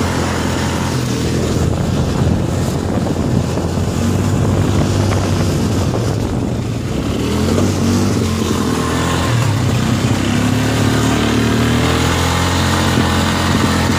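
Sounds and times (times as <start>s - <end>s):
off-road vehicle engine running: 0.0s - 13.9s.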